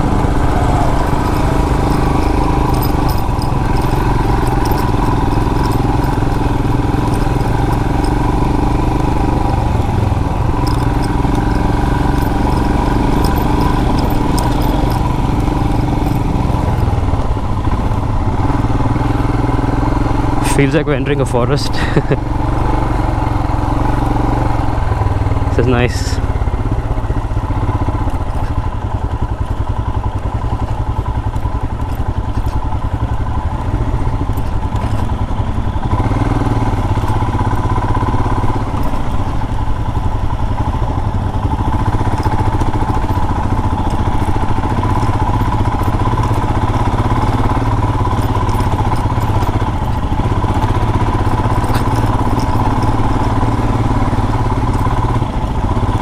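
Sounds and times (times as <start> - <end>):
knocks and clatter from rough ground: 0.0 - 19.2, 26.9 - 56.0
motorcycle engine running: 0.0 - 56.0.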